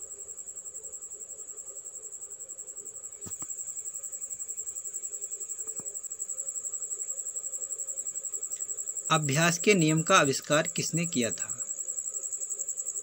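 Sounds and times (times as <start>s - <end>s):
insect trilling: 0.0s - 13.0s.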